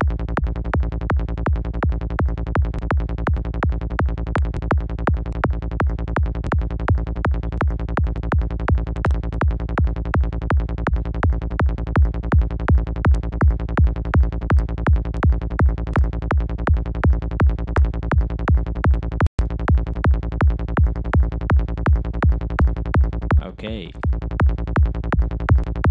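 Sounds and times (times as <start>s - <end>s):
distorted kick and bass loop: 0.0s - 25.9s.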